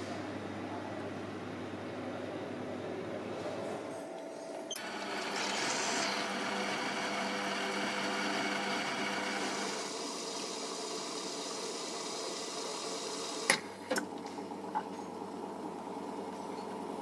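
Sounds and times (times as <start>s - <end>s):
coffee machine pump whir and hiss: 3.3s - 17.0s.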